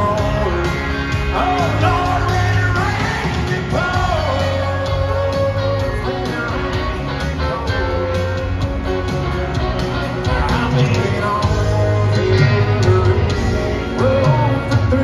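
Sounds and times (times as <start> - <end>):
live country band music: 0.0 - 15.0.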